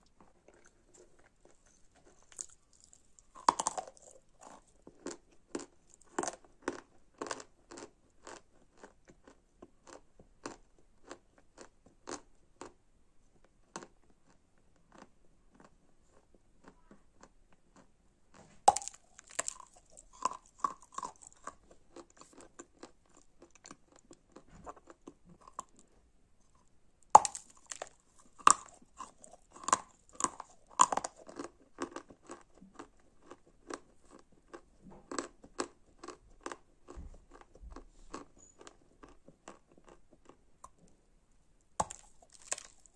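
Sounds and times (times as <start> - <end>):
crunchy chewing: 0.0 - 12.8, 13.6 - 41.0, 41.8 - 42.9.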